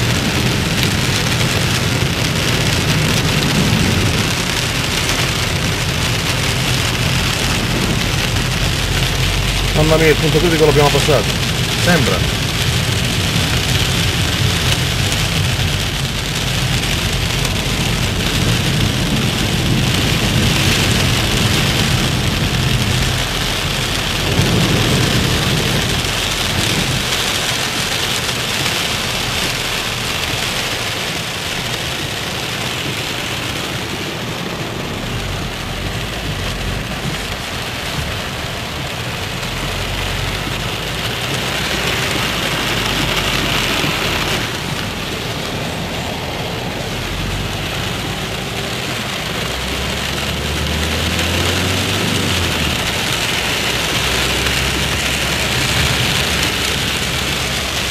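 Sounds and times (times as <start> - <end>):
heavy rain on car roof: 0.0 - 57.9
low car engine hum: 0.0 - 57.9
tyres on wet road: 0.0 - 57.9.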